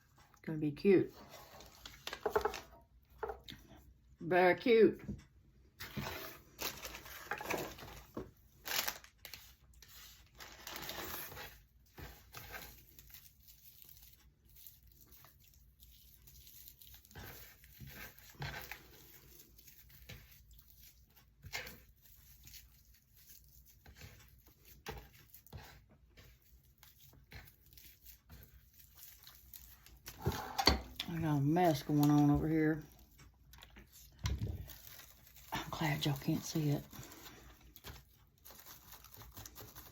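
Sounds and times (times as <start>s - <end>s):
raffia rustling and crinkling: 5.8s - 39.9s.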